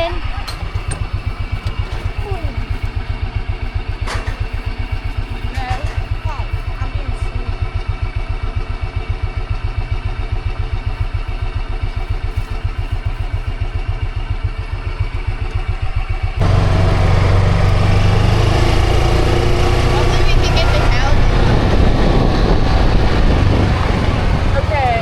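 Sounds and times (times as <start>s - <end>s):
engine and motion noise: 0.0s - 25.0s
small engine idling: 0.0s - 25.0s.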